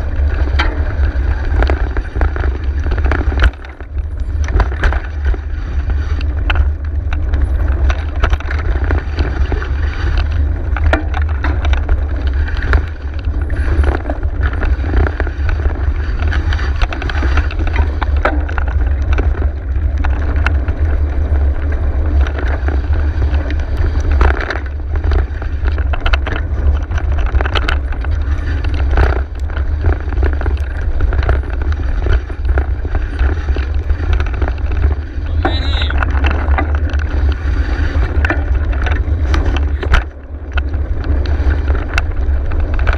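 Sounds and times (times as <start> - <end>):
bike clicks and rattles: 0.0 - 42.9
bike tyre noise on dirt: 0.0 - 42.9
wind buffeting microphone: 0.0 - 42.9.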